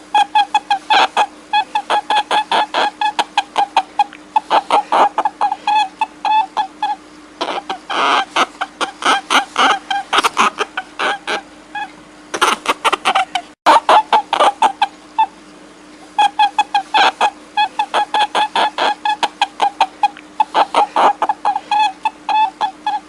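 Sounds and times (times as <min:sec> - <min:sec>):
short pitched animal calls: 0:00.0 - 0:23.0
steady low hum: 0:00.0 - 0:23.0.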